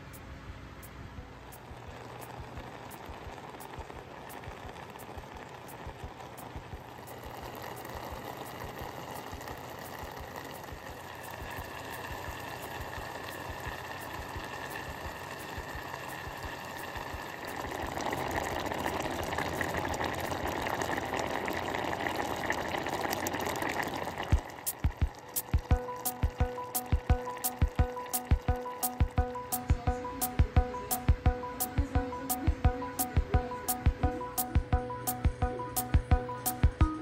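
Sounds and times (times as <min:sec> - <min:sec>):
jam bubbling in a pot: 0:01.4 - 0:36.8.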